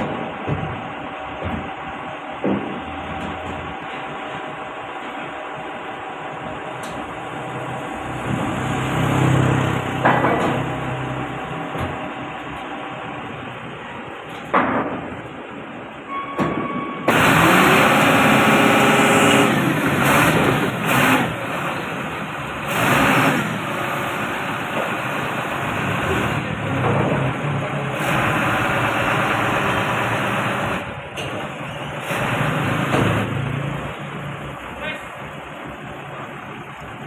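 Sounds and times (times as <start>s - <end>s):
forklift engine running: 0.0s - 16.2s, 16.8s - 37.0s.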